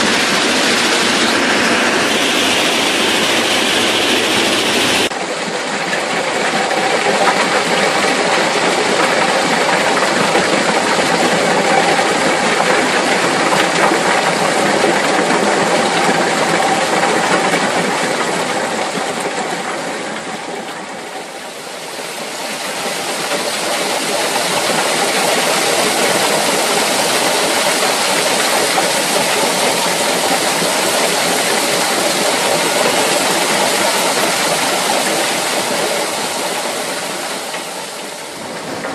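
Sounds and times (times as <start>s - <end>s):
rock crushing machinery running: 0.0s - 38.9s.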